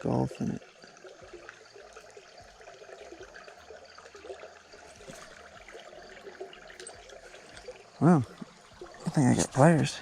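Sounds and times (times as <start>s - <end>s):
creek babbling over rocks: 0.0s - 10.0s.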